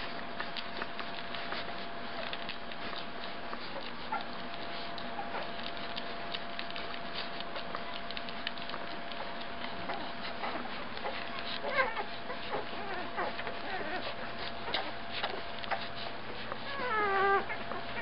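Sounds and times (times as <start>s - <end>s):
puppies high squeaks: 0.0s - 18.0s
puppies suckling clicks: 0.0s - 18.0s.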